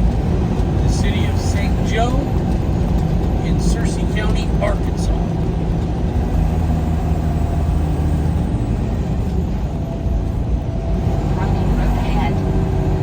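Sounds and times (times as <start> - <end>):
engine drone: 0.0 - 13.0
road noise: 0.0 - 13.0.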